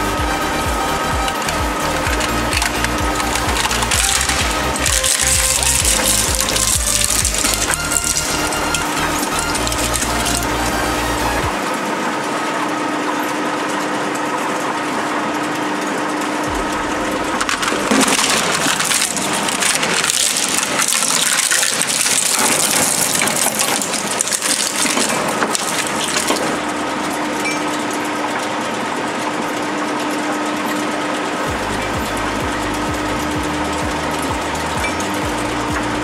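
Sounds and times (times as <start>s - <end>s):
industrial shredder humming: 0.0s - 36.0s
shredder crushing plastic and metal: 0.0s - 36.0s.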